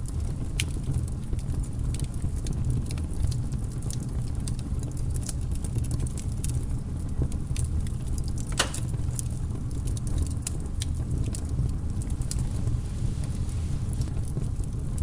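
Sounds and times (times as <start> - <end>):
fire roaring: 0.0 - 15.0
wood crackling and popping: 0.0 - 15.0.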